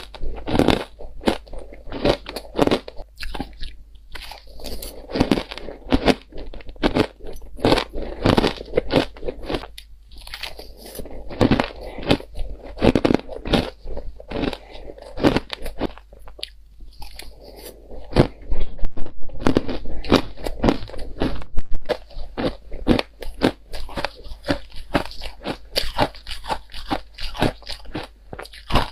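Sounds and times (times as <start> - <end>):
ice crunching while chewed: 0.0 - 28.9.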